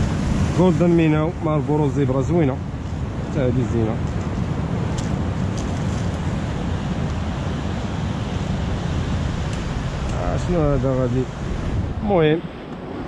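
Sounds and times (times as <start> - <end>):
surf washing over rocks: 0.0 - 13.0
wind rumbling on microphone: 0.0 - 13.0.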